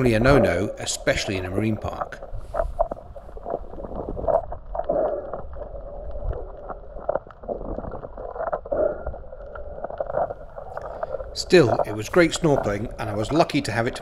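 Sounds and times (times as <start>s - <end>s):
muffled underwater swishing: 0.0s - 14.0s.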